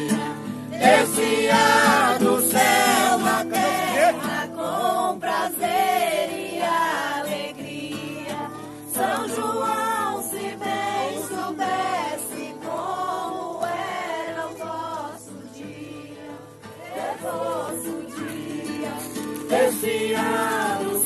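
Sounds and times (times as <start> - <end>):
group of people singing: 0.0 - 21.0.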